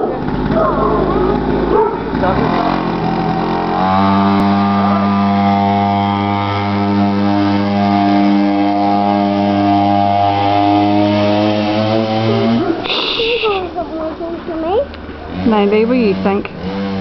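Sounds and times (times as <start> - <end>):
small dirt bike engine running: 0.0 - 17.0.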